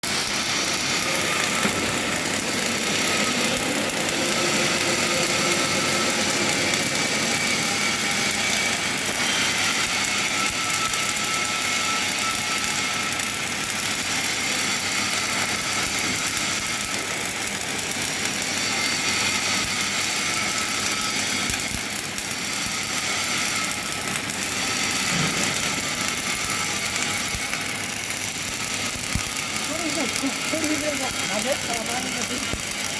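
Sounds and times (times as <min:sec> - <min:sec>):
welding arc crackling hiss: 0:00.0 - 0:32.9.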